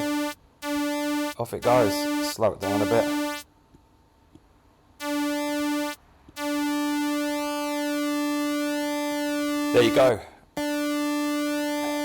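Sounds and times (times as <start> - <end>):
synth pulse wave note: 0.0 - 3.4, 5.0 - 10.0, 10.6 - 12.0.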